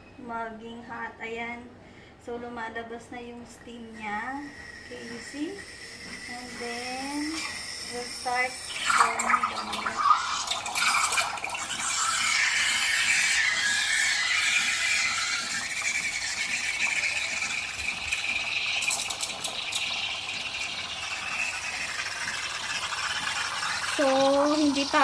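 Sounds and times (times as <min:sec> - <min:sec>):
steam wand frothing milk: 0:03.9 - 0:25.0.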